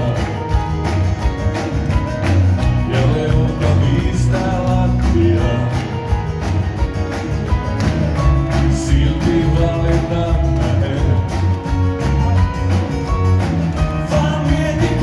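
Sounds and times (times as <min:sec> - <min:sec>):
drums steady beat: 0:00.0 - 0:15.0
electric and acoustic guitars: 0:00.0 - 0:15.0
keyboard: 0:00.0 - 0:15.0.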